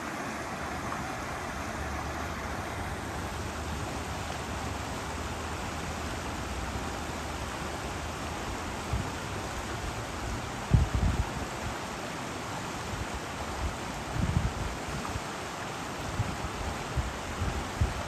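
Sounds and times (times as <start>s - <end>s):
brook running water: 0.0s - 18.0s.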